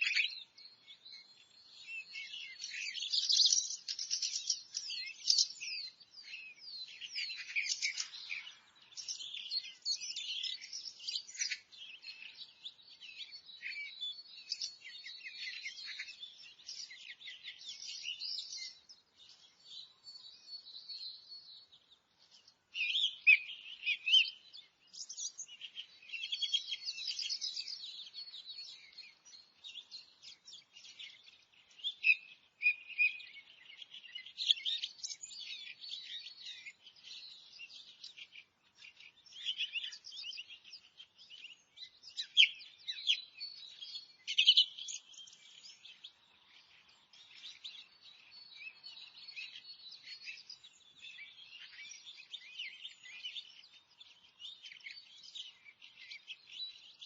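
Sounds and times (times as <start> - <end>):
forest birds singing: 0.0 - 57.0.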